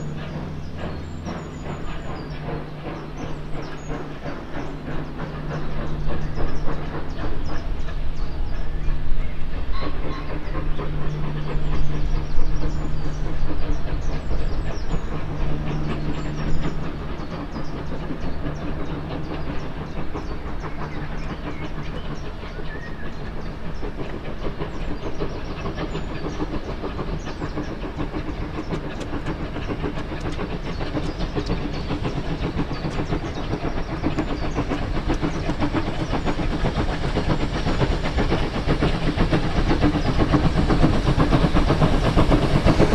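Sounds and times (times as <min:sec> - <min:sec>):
steam hissing: 0:00.0 - 0:42.9
train wheels clattering on rails: 0:00.0 - 0:42.9.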